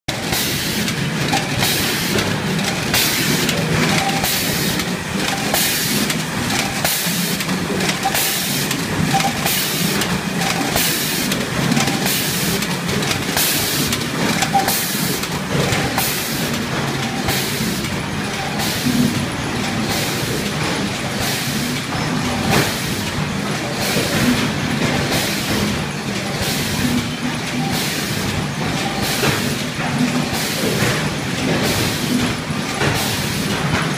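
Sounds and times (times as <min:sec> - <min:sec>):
packing machine running: 0:00.1 - 0:33.9.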